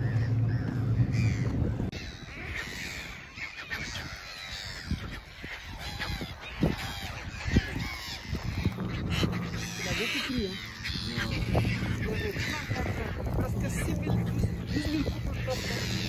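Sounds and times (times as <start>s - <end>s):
boat motor humming: 0.0s - 3.3s, 6.0s - 16.0s
seabirds calling: 0.0s - 16.0s.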